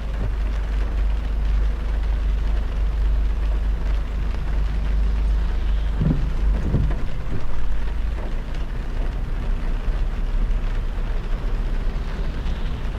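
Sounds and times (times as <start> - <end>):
car road rumble: 0.0 - 12.9
rain and tyres on wet road: 0.0 - 12.9.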